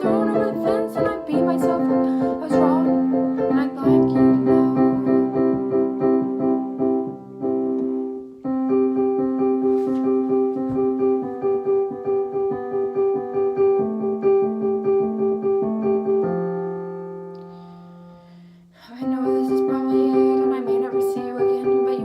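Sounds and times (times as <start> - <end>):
piano playing repeated chords: 0.0 - 22.0.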